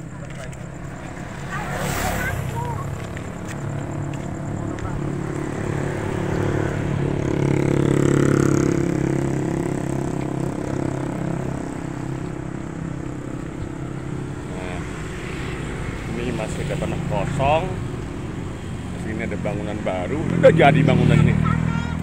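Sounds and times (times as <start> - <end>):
steady engine hum: 0.0 - 22.0
vehicle engine passing by: 0.0 - 22.0.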